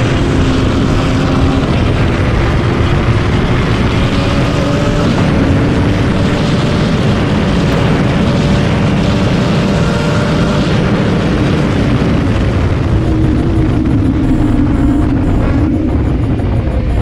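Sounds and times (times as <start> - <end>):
motorcycle engine at high revs: 0.0 - 17.0
wind rushing over microphone: 0.0 - 17.0.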